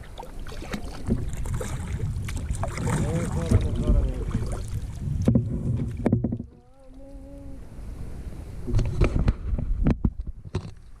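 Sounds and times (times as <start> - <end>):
low rumbling wind noise: 0.8 - 11.0.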